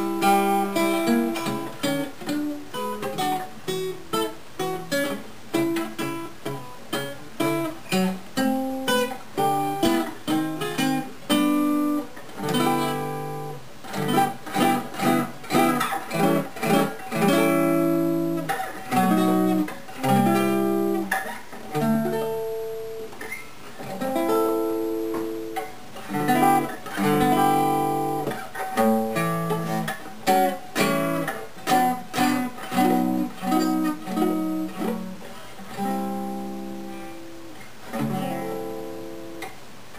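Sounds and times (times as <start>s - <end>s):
acoustic guitar noodling: 0.0s - 39.6s.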